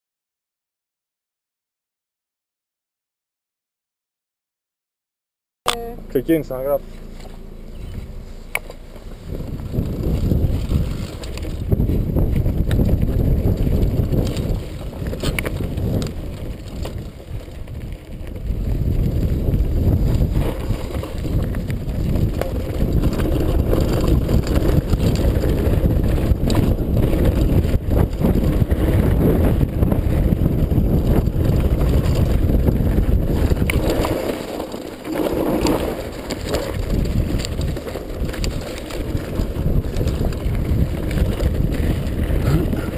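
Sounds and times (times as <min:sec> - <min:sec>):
tyres rumbling on gravel: 0:06.1 - 0:42.9
bike rattles and knocks: 0:06.9 - 0:42.9
wind buffeting microphone: 0:07.7 - 0:42.9.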